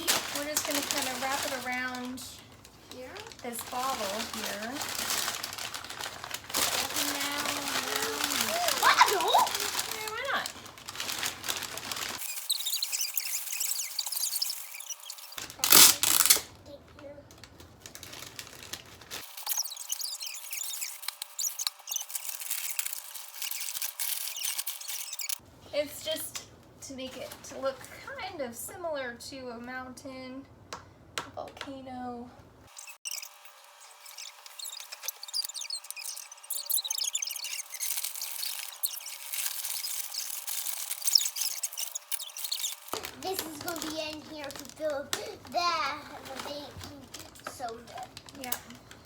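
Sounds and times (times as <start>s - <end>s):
packing paper crinkling: 0.0s - 16.5s, 17.2s - 25.4s, 32.7s - 49.0s.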